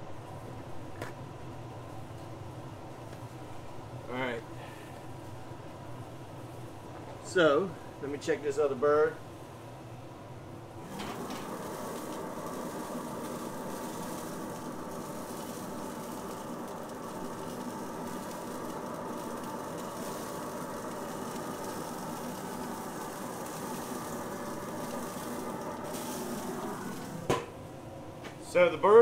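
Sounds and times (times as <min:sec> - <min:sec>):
steady mechanical drone: 0:02.5 - 0:29.0.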